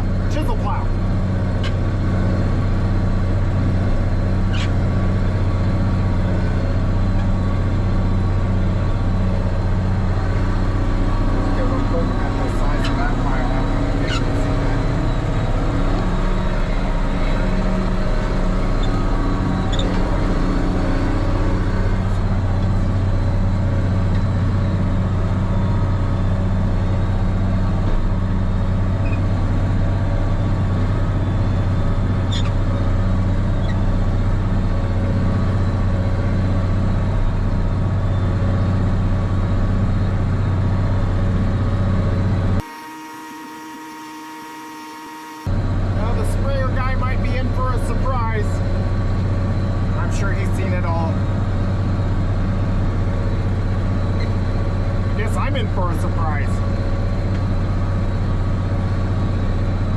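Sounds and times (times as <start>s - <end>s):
tractor diesel engine droning: 0.0s - 59.9s.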